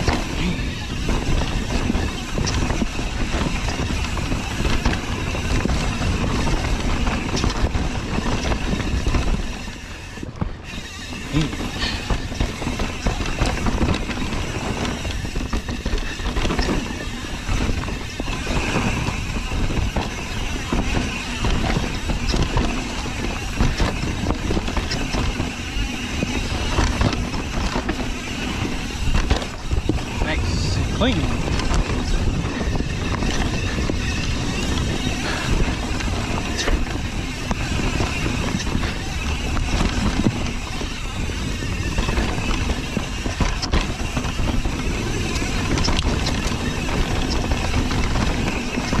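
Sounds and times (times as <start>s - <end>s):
bike knocking and rattling: 0.0s - 49.0s
bike tyres rolling on dirt: 0.0s - 49.0s
wind buffeting microphone: 0.0s - 49.0s.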